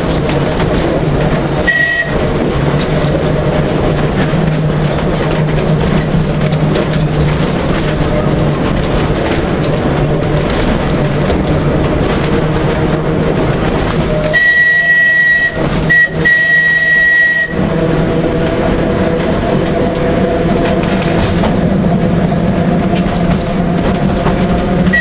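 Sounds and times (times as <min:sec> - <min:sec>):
tram running with low hum: 0:00.0 - 0:25.0.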